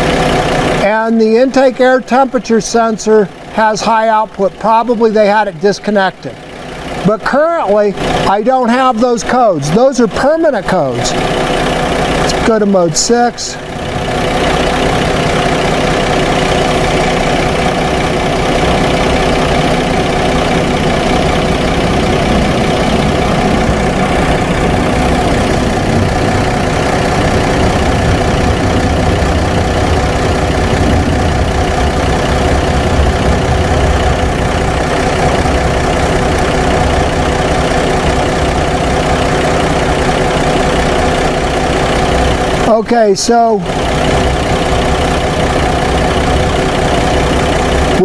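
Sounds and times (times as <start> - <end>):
car engine idling roughly: 0.0 - 48.0.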